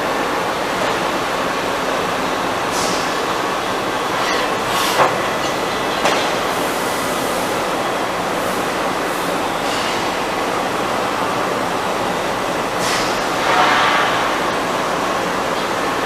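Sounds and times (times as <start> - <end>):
machining center running: 0.0 - 16.0.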